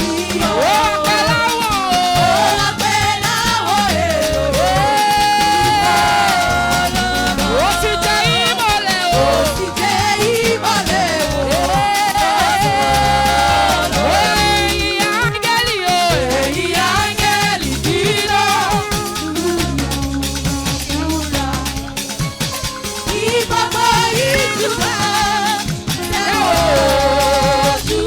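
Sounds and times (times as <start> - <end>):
live praise band music: 0.0 - 28.0.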